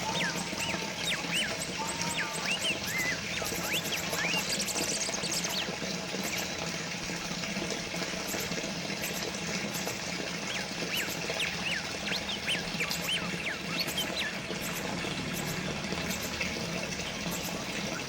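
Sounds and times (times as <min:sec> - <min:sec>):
birds chirping: 0:00.0 - 0:18.0
water fountain trickling: 0:00.0 - 0:18.0.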